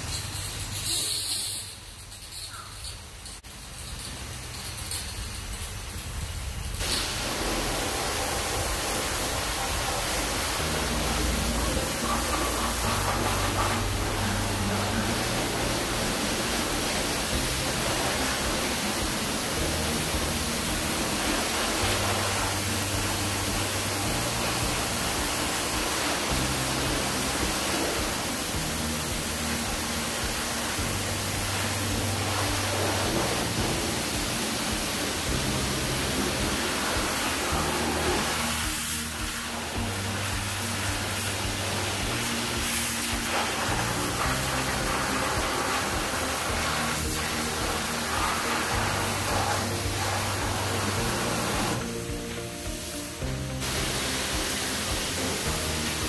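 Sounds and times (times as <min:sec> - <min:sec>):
pressure washer water jet spraying: 0:00.0 - 0:56.0
background music with bass line: 0:08.6 - 0:56.0.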